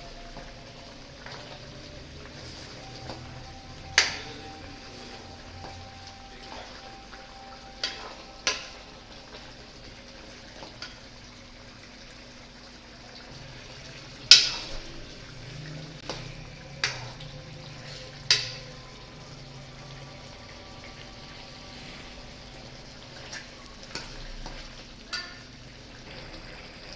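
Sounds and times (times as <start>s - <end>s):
curry simmering and bubbling: 0.0s - 26.9s.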